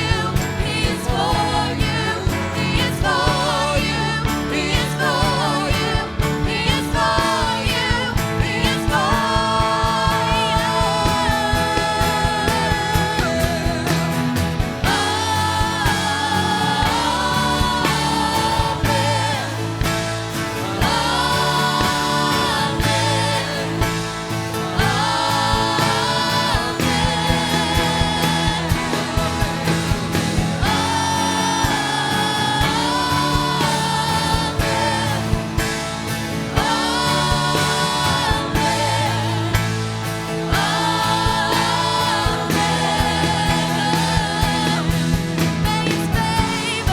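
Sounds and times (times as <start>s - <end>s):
people singing: 0.0s - 46.9s
worship band playing: 0.0s - 46.9s.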